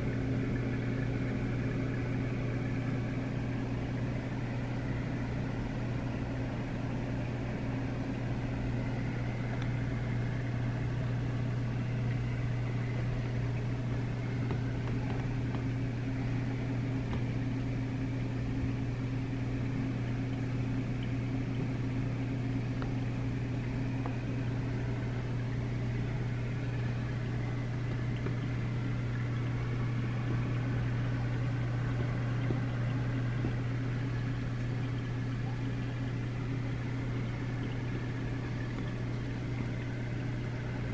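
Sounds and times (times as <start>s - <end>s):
aquarium pumps humming: 0.0s - 40.9s.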